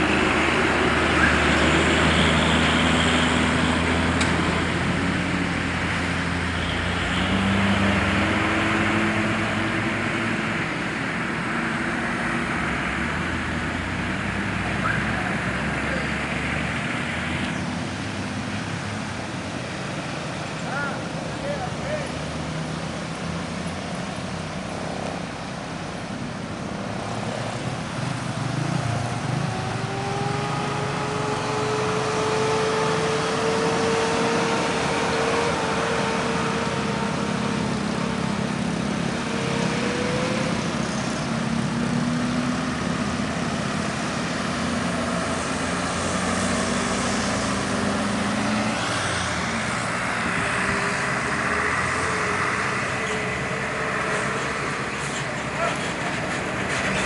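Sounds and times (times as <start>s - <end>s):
engine pulling uphill: 0.0s - 57.0s
road traffic passing: 0.0s - 57.0s.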